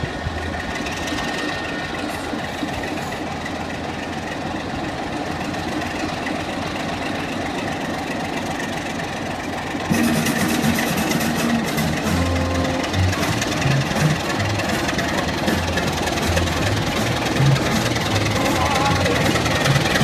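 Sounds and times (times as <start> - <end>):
locomotive diesel engine drone: 0.0 - 20.0.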